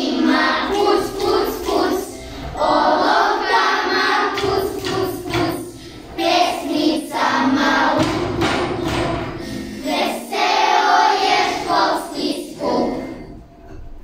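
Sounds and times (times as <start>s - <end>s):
children singing: 0.0s - 13.5s.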